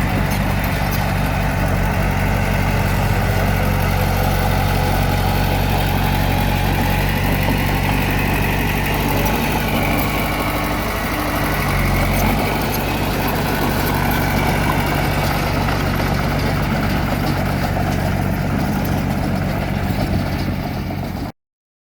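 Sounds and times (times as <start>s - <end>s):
bulldozer diesel engine running: 0.0s - 21.3s.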